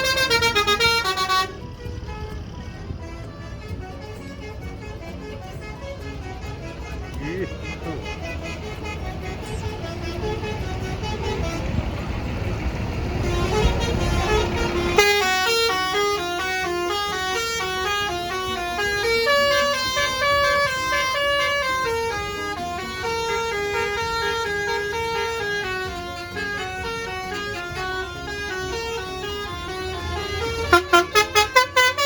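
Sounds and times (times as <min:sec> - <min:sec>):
bus engine rumbling: 0:00.0 - 0:32.0
musical bus horn tune: 0:00.0 - 0:32.0.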